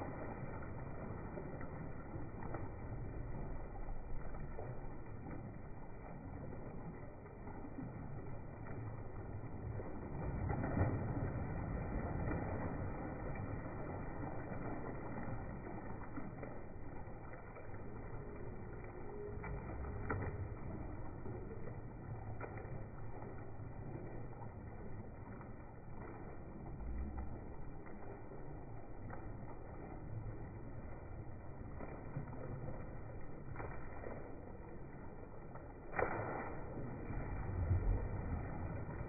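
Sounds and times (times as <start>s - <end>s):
water rushing from inlet pipe: 0.0s - 39.0s
water splashing and sloshing: 0.0s - 39.0s.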